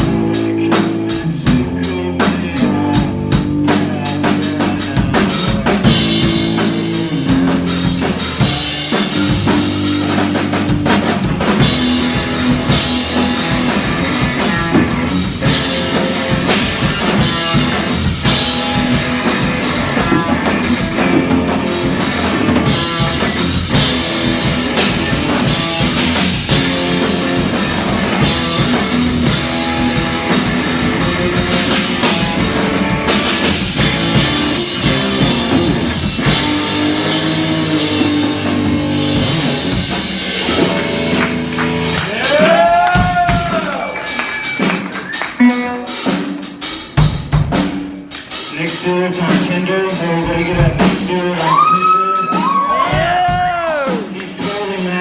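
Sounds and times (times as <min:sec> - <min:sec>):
electric guitar: 0:00.0 - 0:48.5
bass guitar: 0:00.0 - 0:55.0
drum kit: 0:00.0 - 0:55.0.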